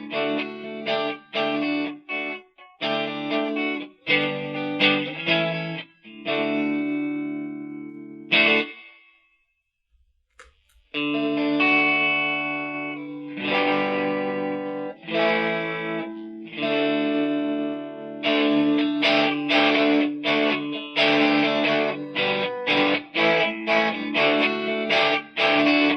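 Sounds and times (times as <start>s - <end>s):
overdriven electric guitar chords: 0.0s - 9.1s, 10.4s - 25.9s.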